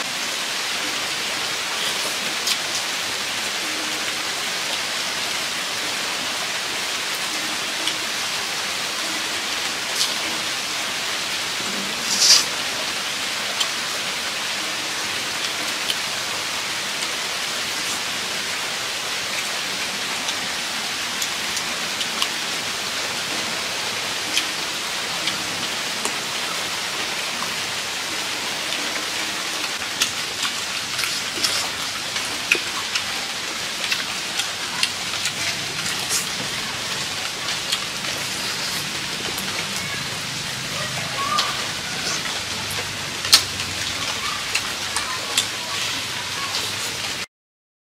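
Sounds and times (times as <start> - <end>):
steady background hiss: 0.0 - 44.4.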